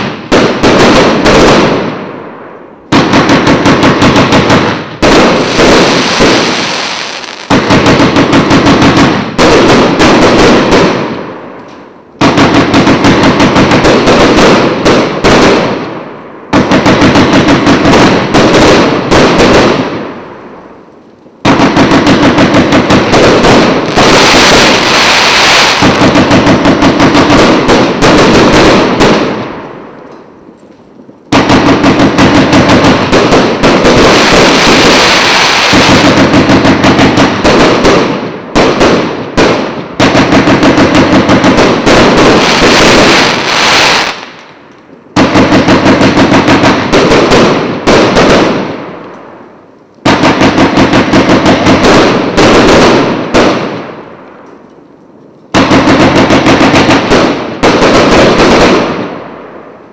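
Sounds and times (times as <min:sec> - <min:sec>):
fireworks launching and bursting: 0:00.0 - 0:54.7, 0:55.5 - 0:59.9.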